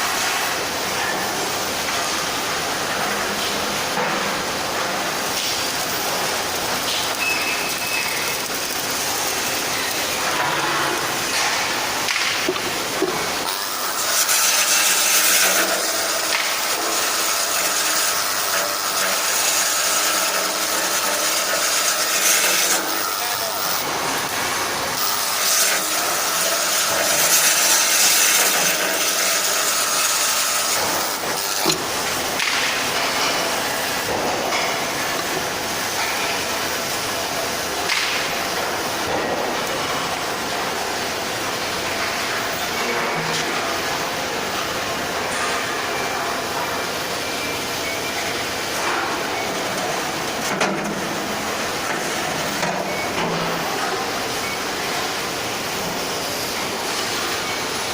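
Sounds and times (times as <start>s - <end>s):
arc welding hiss and crackle: 0.0s - 57.9s
workshop machine noise: 0.0s - 57.9s.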